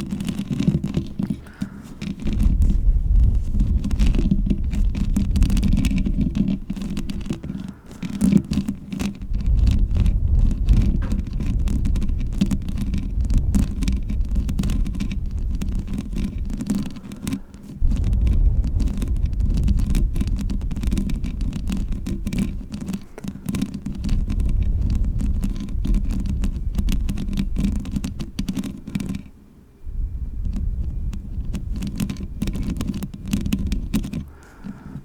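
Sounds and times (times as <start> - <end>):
fingernails scratching microphone: 0.0 - 35.0.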